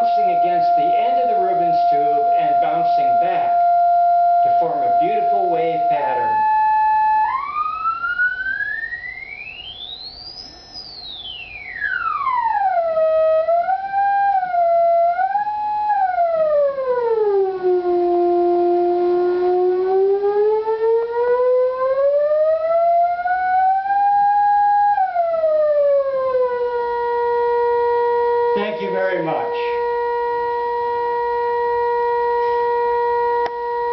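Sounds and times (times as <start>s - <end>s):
siren-like gliding tone: 0.0s - 33.9s.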